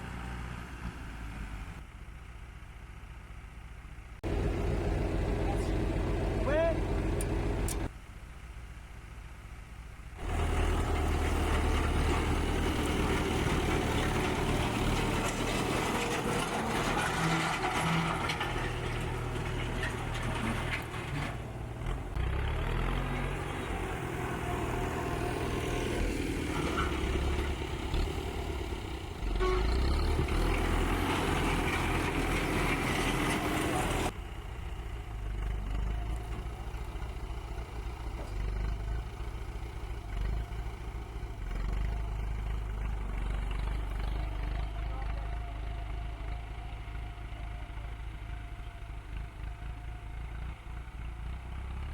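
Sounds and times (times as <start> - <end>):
tractor engine running: 2.8 - 7.9, 10.2 - 51.9.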